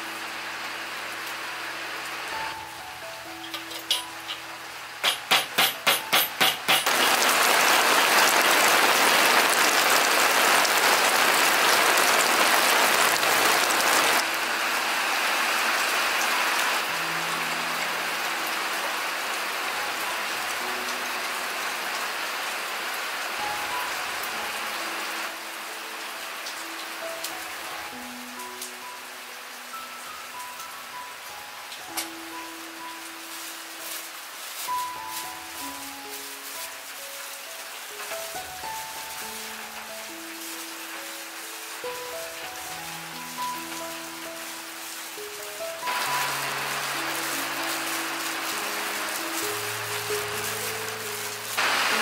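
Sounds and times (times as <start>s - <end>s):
rain pouring and pattering: 0.0s - 52.0s.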